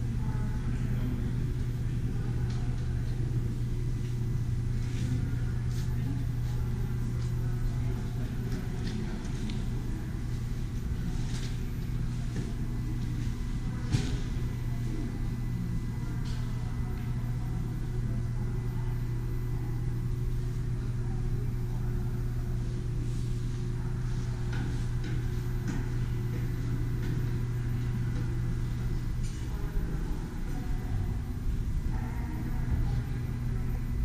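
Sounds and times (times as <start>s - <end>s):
low machinery hum: 0.0s - 34.0s.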